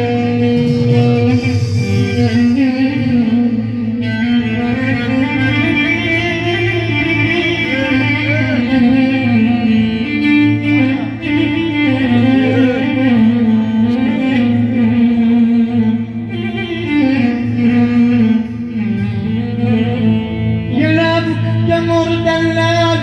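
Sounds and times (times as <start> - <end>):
plucked string melody: 0.0 - 23.0.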